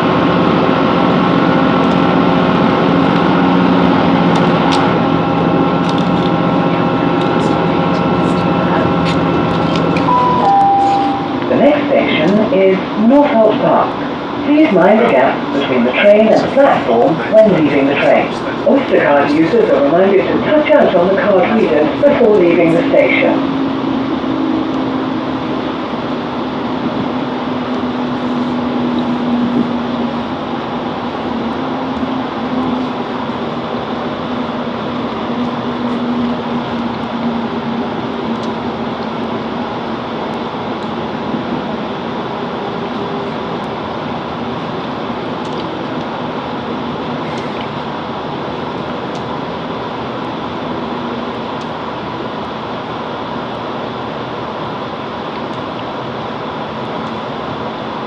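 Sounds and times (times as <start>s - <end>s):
ventilation noise: 0.0s - 58.0s.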